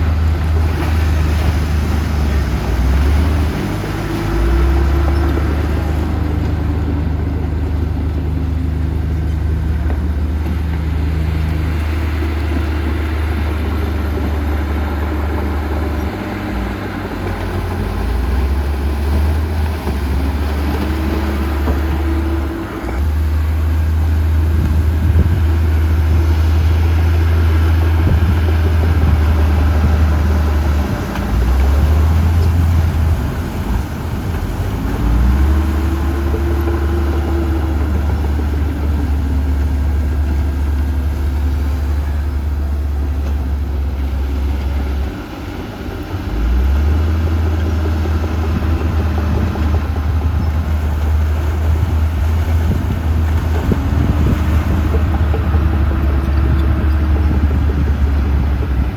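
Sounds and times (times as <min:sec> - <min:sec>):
heavy diesel machinery engine drone: 0:00.0 - 0:58.9.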